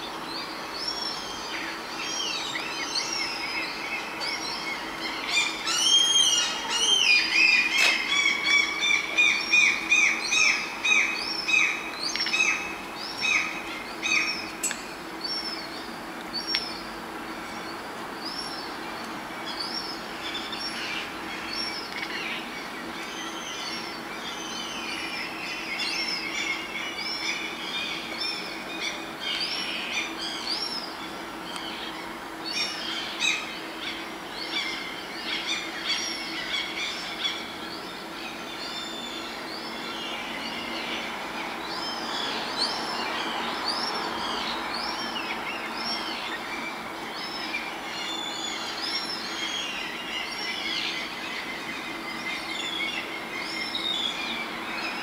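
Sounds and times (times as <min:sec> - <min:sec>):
gulls calling: 0:00.0 - 0:55.0.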